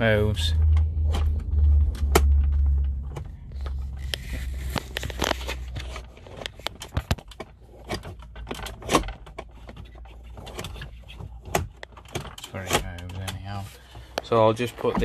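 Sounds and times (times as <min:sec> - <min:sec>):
phone handling rumble: 0:00.0 - 0:14.2
control cable clicks and scrapes: 0:00.0 - 0:15.0.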